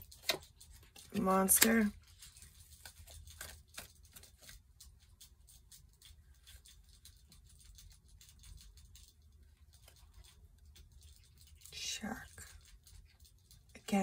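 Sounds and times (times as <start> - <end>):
cards clicking and rustling: 0.0 - 11.3
low room hum: 0.0 - 14.0.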